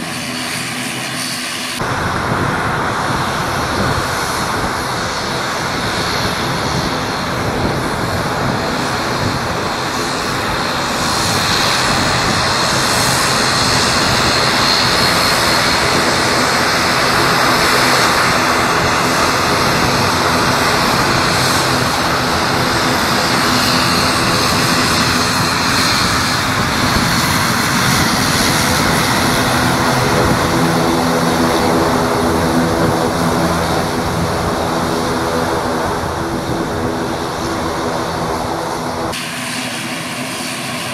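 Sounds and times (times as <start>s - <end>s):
propeller drone: 0.0s - 40.9s
turboprop engines running: 0.0s - 40.9s.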